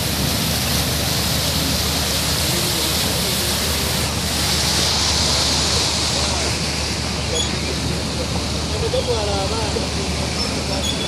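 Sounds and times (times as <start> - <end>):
floodwater rushing on road: 0.0 - 11.0
vehicles wading through water: 0.0 - 11.0.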